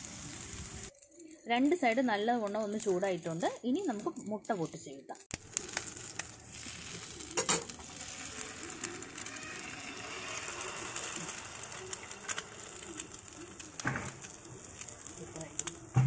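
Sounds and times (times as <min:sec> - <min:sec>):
egg frying with crackling sizzle: 0:00.0 - 0:16.0.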